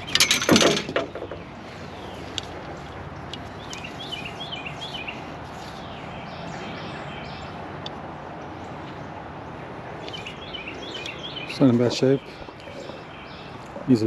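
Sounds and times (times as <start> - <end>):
outdoor background hiss: 0.0 - 14.0
small bird chirping: 1.3 - 9.0, 10.0 - 14.0.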